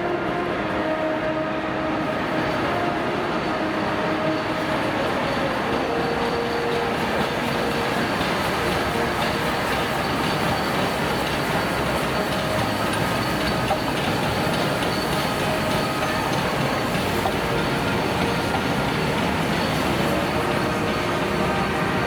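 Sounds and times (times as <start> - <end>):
train wheels on track: 0.0 - 22.0.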